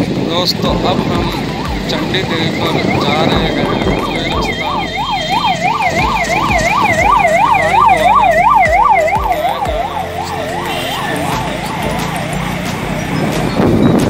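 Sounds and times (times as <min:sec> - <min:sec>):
traffic noise: 0:00.0 - 0:14.0
vehicle siren yelping: 0:00.0 - 0:14.0.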